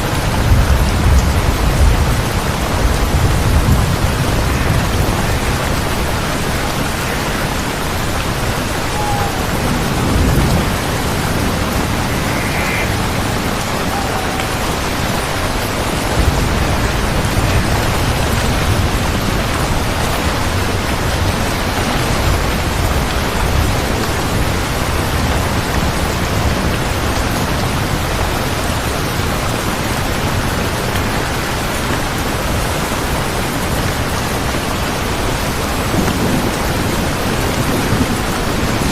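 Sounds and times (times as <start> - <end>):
low rumble of thunder: 0.0 - 30.4, 35.3 - 38.9
heavy rain: 0.0 - 38.9.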